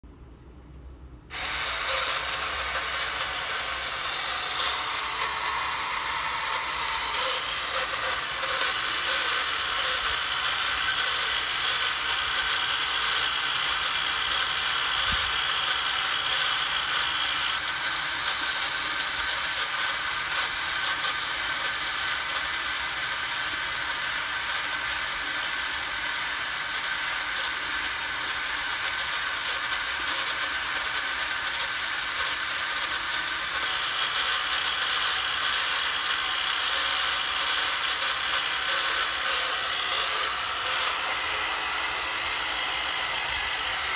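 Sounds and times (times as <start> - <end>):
toy motor and gears whirring: 1.3 - 43.9.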